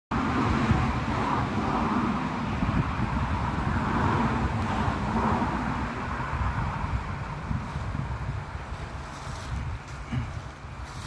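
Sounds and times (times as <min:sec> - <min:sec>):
wind buffeting microphone: 0:00.1 - 0:11.0.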